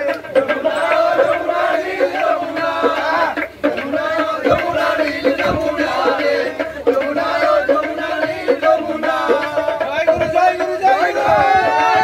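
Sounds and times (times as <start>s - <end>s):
men singing in chorus: 0.0s - 12.0s
sharp percussion beats: 0.0s - 12.0s.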